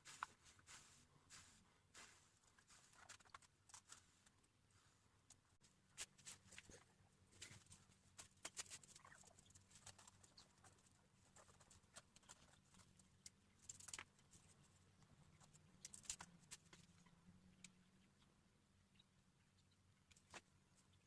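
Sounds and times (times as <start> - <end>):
faint clicks and scratches: 0.0 - 18.3, 18.9 - 21.0.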